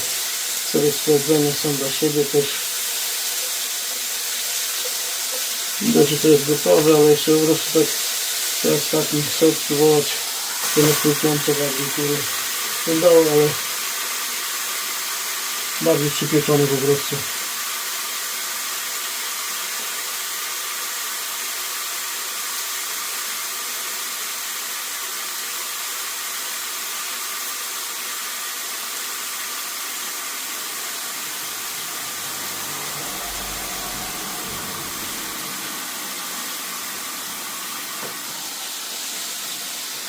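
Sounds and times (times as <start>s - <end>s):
chicken hissing on grill: 0.0s - 40.0s.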